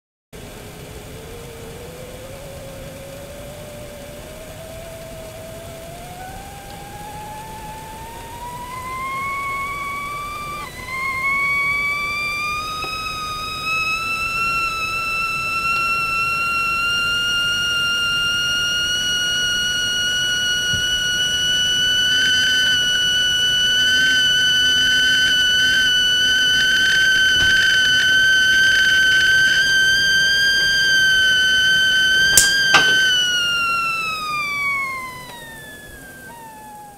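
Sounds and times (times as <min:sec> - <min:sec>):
kettle whistling: 0:00.4 - 0:36.9
sharp clicks: 0:03.5 - 0:36.9.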